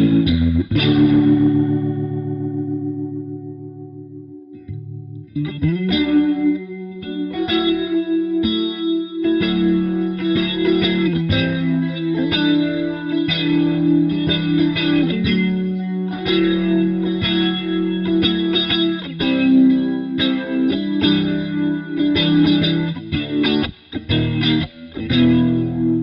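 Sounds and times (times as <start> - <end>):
electric guitar chords with rotary effect: 0.0 - 26.0.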